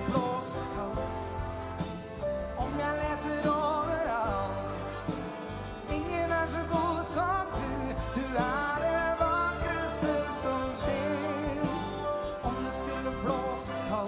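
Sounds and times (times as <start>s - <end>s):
big band playing: 0.0s - 14.0s
man singing: 0.0s - 14.0s.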